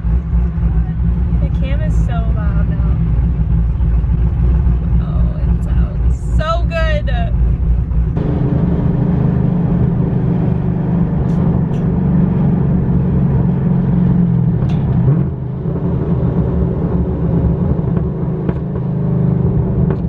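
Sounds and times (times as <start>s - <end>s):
loud rough car exhaust idling: 0.0s - 20.0s.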